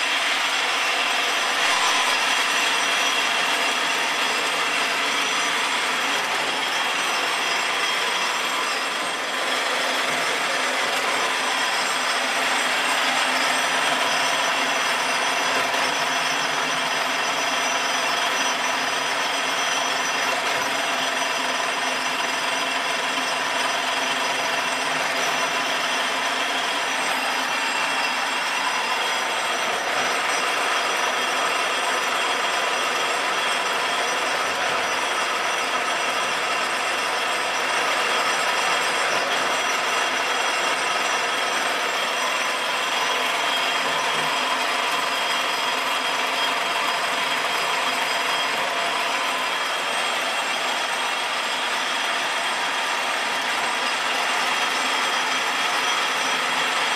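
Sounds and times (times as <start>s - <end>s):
constant machine tones: 0.0s - 56.9s.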